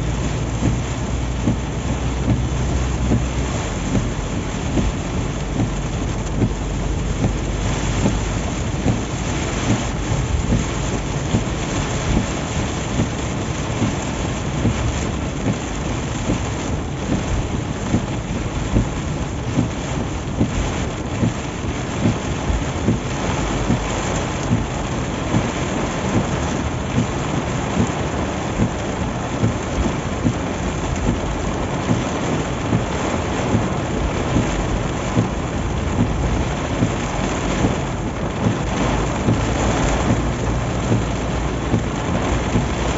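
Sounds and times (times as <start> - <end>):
heavy rain on a car: 0.0 - 42.9
road noise: 0.0 - 42.9.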